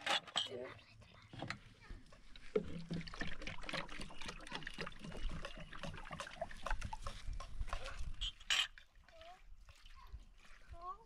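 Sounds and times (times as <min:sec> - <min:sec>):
water trickling and splashing: 0:00.5 - 0:11.0.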